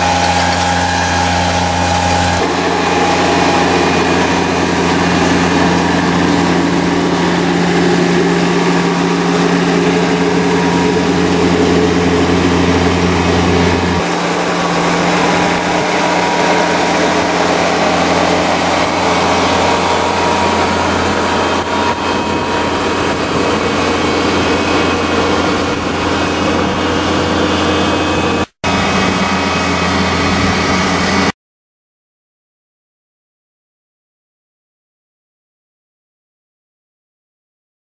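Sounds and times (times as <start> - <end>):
tractor engine under load: 0.0 - 31.3.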